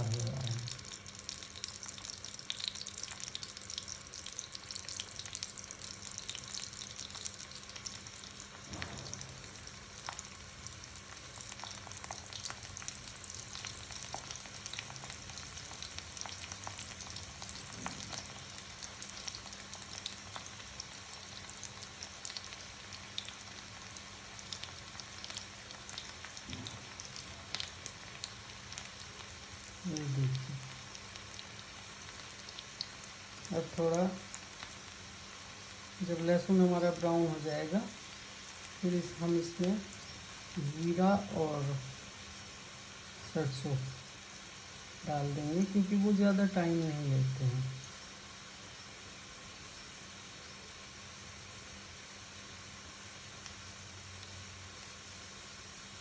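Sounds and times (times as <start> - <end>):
garlic sizzling in hot oil: 0.0 - 56.0.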